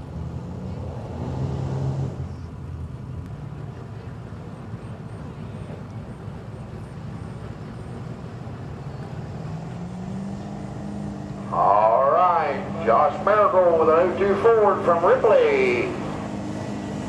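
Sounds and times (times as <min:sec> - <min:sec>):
outdoor rumble: 0:00.0 - 0:17.0
truck engine running: 0:02.2 - 0:17.0.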